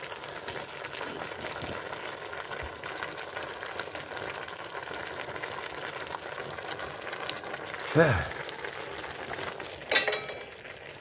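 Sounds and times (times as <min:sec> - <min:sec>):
pot sizzling and bubbling: 0:00.0 - 0:11.0
wood fire crackling: 0:00.0 - 0:11.0.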